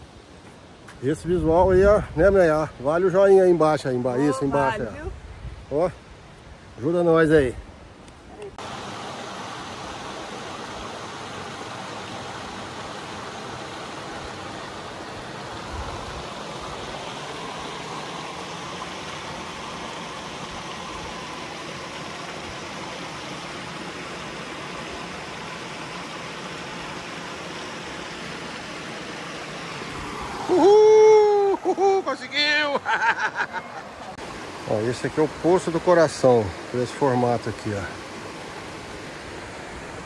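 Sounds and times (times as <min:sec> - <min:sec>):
river water rushing over rocks: 0:07.8 - 0:40.0.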